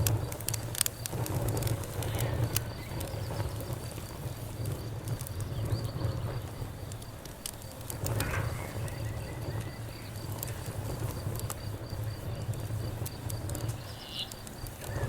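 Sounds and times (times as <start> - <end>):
campfire crackling and popping: 0.0 - 15.0
cricket chirping: 0.0 - 15.0.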